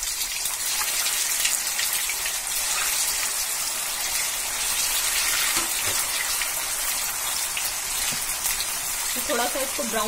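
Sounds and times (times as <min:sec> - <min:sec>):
oil sizzling while deep-frying: 0:00.0 - 0:10.0.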